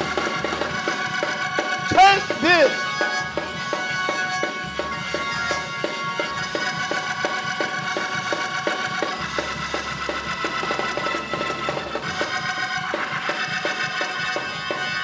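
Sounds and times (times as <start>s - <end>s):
drum kit beat: 0.0s - 15.0s
keyboard chords: 0.0s - 15.0s.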